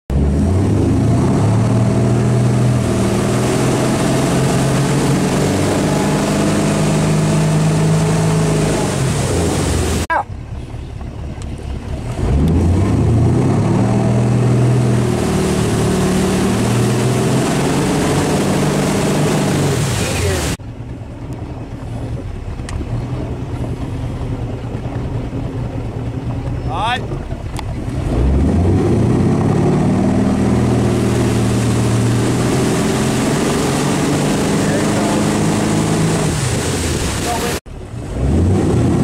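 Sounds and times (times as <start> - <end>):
motorboat engine running: 0.1 - 39.0
water rushing past hull: 0.1 - 39.0.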